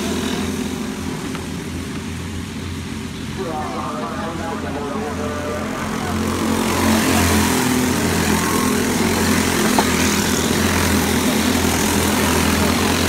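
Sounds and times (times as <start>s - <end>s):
go-kart engines buzzing: 0.0s - 13.0s.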